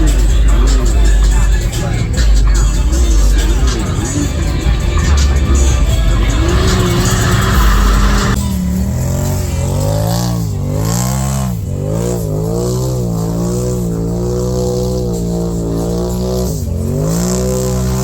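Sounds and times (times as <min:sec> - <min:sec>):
atv engine revving: 0:00.0 - 0:18.0
loud noisy rumble: 0:00.0 - 0:18.0.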